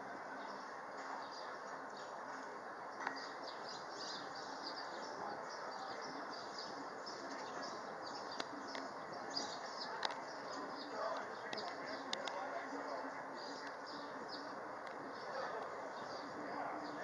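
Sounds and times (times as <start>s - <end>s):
outdoor background noise: 0.0s - 17.0s
small birds chirping: 0.4s - 17.0s.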